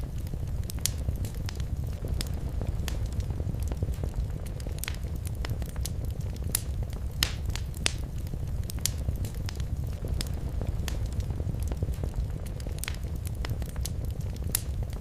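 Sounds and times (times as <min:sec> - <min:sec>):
fire crackling and popping: 0:00.0 - 0:15.0
low rumble of fire: 0:00.0 - 0:15.0.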